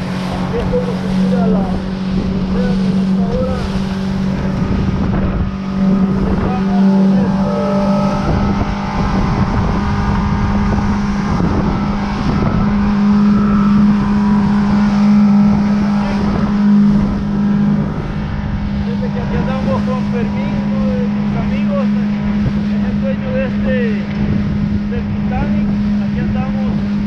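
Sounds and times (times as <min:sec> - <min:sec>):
outboard engine humming: 0:00.0 - 0:27.0
rushing water: 0:00.0 - 0:27.0
wind buffeting microphone: 0:00.0 - 0:27.0.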